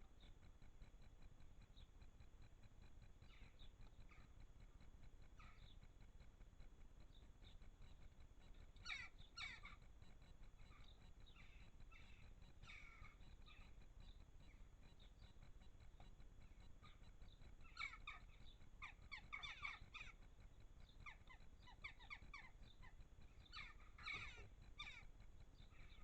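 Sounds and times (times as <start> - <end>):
low background rumble: 0.0 - 26.0
birds chirping: 2.8 - 6.0, 7.0 - 26.0.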